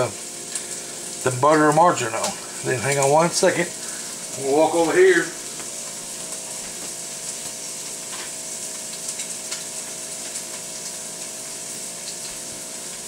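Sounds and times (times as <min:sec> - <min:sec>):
faint steady hum: 0:00.0 - 0:13.0
steak sizzling in a skillet: 0:00.0 - 0:13.0.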